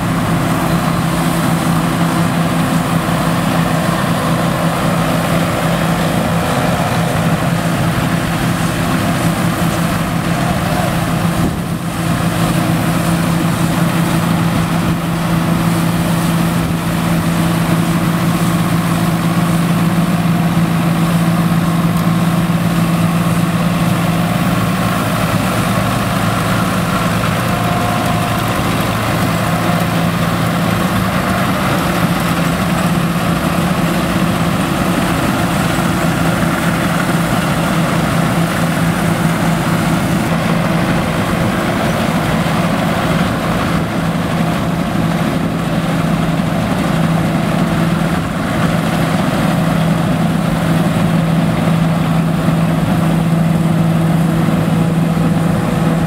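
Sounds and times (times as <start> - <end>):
tractor engines humming: 0.0 - 56.0.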